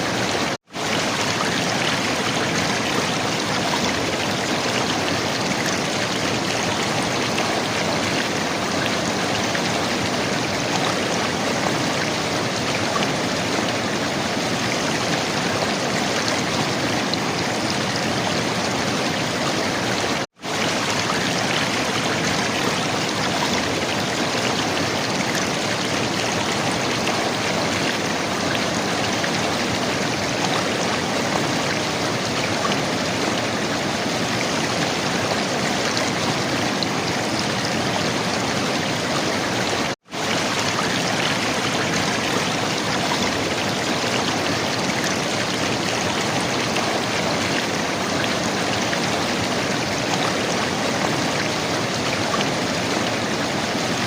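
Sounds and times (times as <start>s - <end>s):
river water flowing and gurgling: 0.0s - 54.0s.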